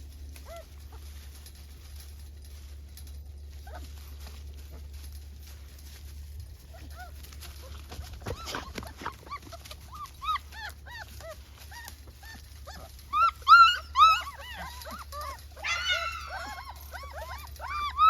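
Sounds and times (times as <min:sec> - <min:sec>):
puppies whimpering and yelping: 0:00.0 - 0:18.0.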